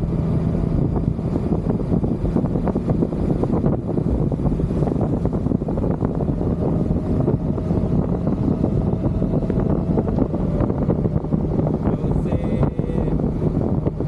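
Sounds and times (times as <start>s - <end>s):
motorcycle engine and road noise: 0.0s - 14.0s
wind buffeting microphone: 0.0s - 14.0s.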